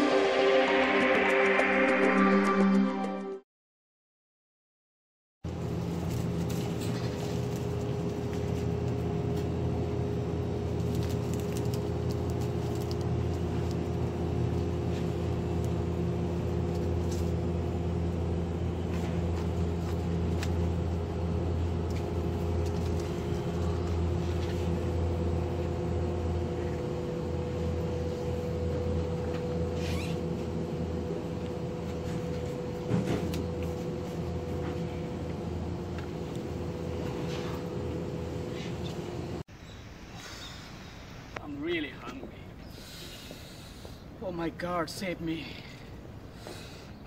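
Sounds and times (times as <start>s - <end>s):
refrigerator and ventilation hum: 5.5s - 47.0s.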